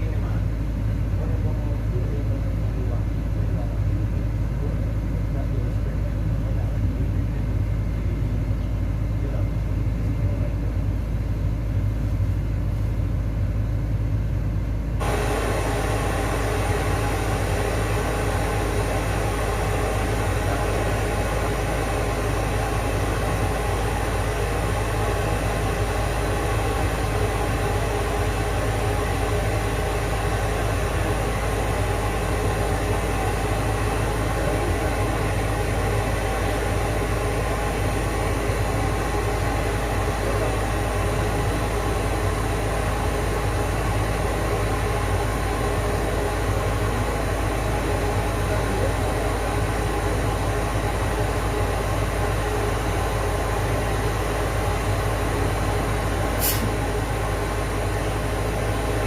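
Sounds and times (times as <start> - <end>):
deep hum and rumble: 0.0 - 59.0.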